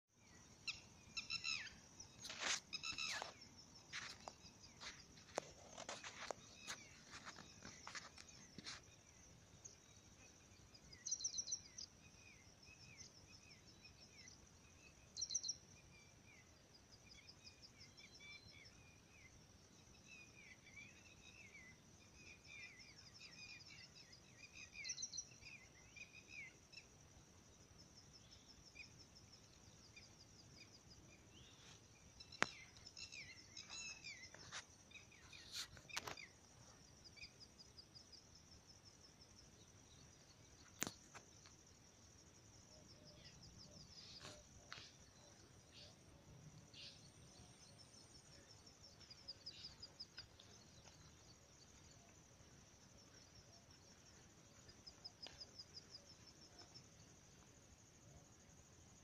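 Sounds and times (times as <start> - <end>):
songbirds chirping and trilling: 0.2 - 59.0.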